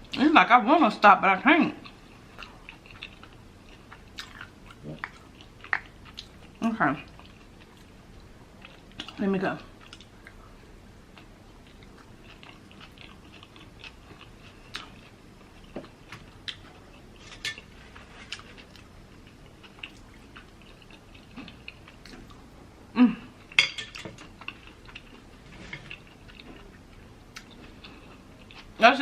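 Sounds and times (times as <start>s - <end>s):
quiet chewing: 1.8s - 22.6s, 23.3s - 28.8s.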